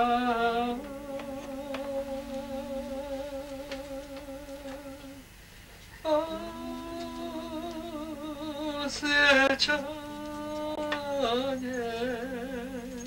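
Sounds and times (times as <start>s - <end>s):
voices singing unaccompanied: 0.0s - 5.3s, 6.0s - 13.0s.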